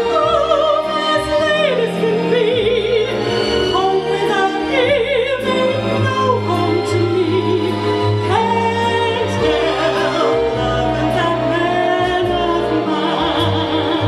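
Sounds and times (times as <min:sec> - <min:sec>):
musical accompaniment: 0:00.0 - 0:14.0
woman singing with vibrato: 0:00.0 - 0:14.0.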